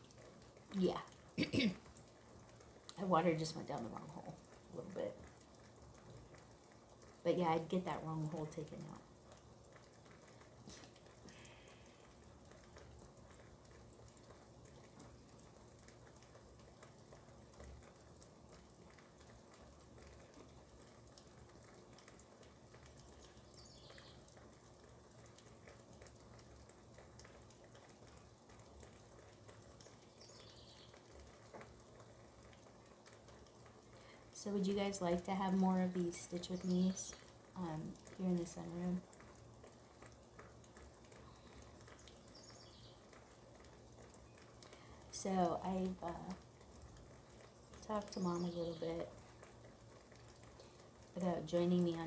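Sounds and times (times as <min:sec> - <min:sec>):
faint rain patter: 0:00.0 - 0:52.0.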